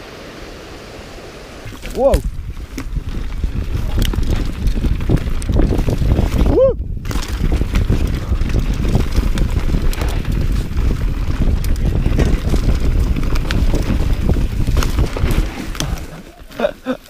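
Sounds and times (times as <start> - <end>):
tyres running over loose dirt: 1.6 - 17.0
wind buffeting microphone: 1.6 - 17.0
bike clicks and rattles: 1.7 - 17.0.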